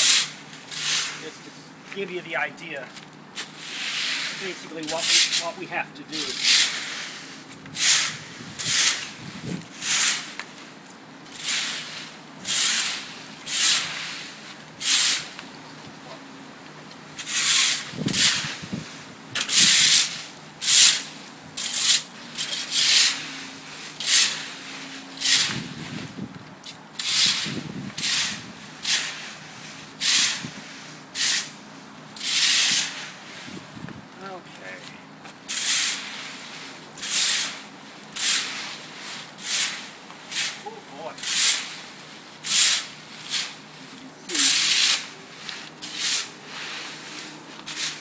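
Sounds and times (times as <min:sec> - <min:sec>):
rake scraping leaves on brick: 0:00.0 - 0:16.2, 0:16.9 - 0:48.0.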